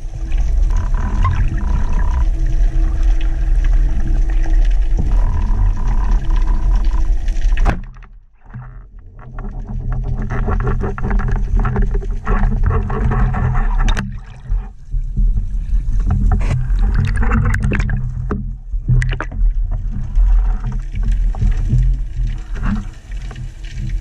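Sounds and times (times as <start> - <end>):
steady low rumble: 0.0 - 24.0
water sloshing and rushing: 0.0 - 24.0.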